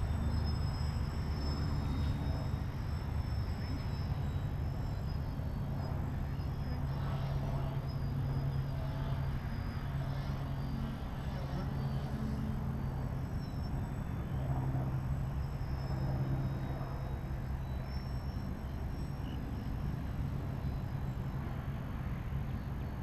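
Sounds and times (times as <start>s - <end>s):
distant model aeroplane motor drone: 0.0s - 23.0s.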